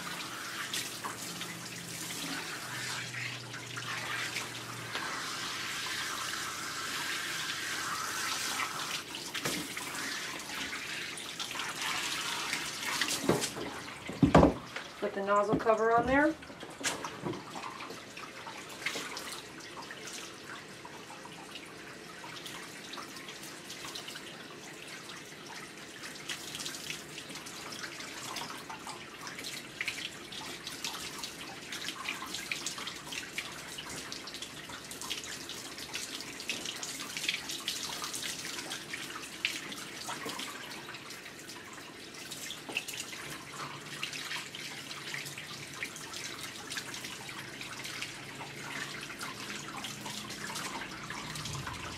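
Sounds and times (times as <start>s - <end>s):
water splashing and dripping: 0.0s - 51.9s.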